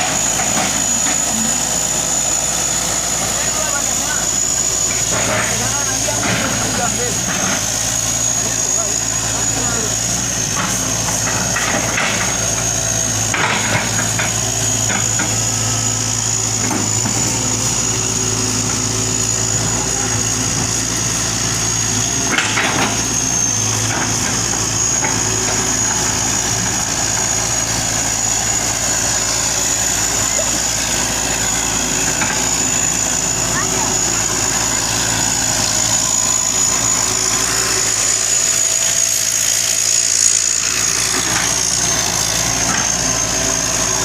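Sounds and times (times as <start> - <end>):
excavator diesel engine running: 0.0 - 44.0
high whine: 0.0 - 44.0.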